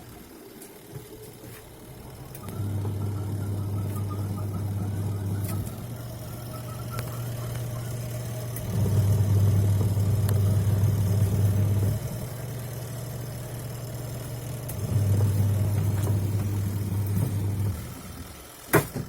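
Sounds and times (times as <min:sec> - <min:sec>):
washing machine motor humming: 0:00.0 - 0:19.0.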